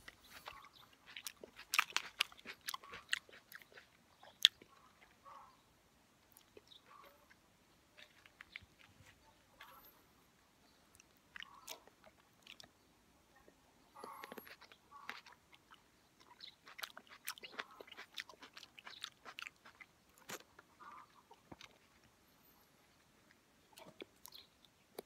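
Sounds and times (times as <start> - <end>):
mouth chewing juicy fruit: 0.0 - 5.6, 6.2 - 10.1, 10.7 - 25.0.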